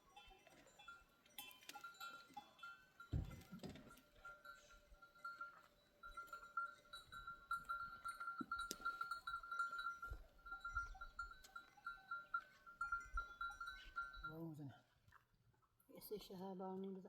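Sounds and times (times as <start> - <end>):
animal bells jingling: 0.0 - 15.0.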